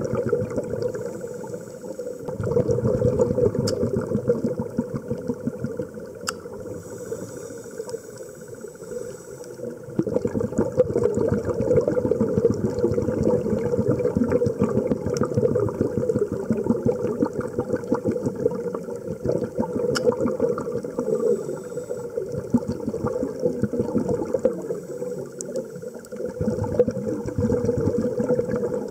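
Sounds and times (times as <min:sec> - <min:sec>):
dense underwater crackling: 0:00.0 - 0:28.9.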